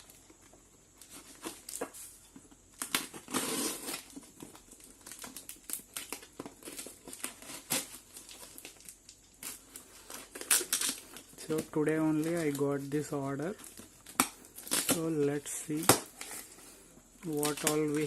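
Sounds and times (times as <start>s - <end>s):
packaging crinkling and ripping: 0.0s - 18.0s.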